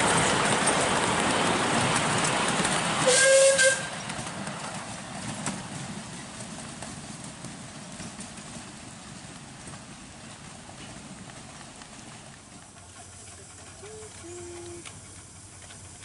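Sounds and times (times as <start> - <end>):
miniature steam train running: 0.0 - 16.0.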